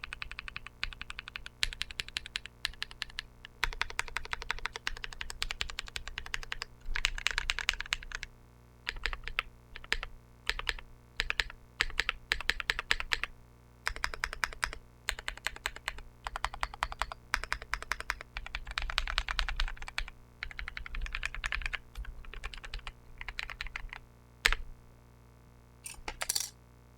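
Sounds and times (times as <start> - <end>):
mechanical keyboard typing: 0.0 - 8.3, 8.9 - 13.3, 13.9 - 24.6, 25.9 - 26.5.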